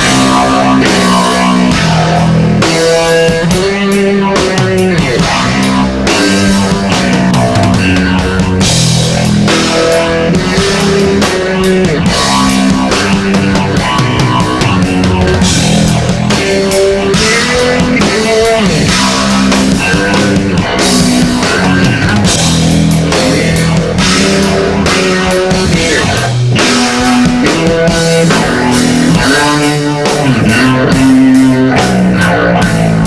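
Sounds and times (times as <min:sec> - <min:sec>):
electric bass with phaser effect: 0:00.0 - 0:33.0
steady drum beat: 0:00.0 - 0:33.0.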